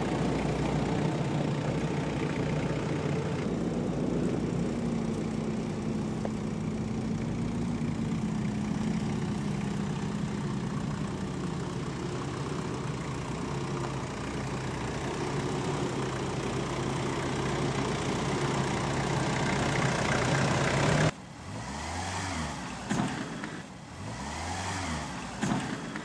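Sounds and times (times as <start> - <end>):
engine rising and falling in pitch: 0.0 - 26.0
engine running at low revs: 0.0 - 26.0.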